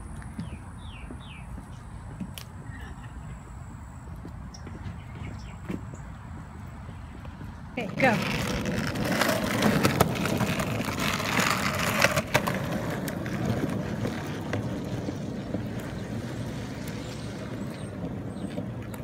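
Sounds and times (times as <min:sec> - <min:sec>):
skateboard wheels rolling on concrete: 0:00.0 - 0:19.0.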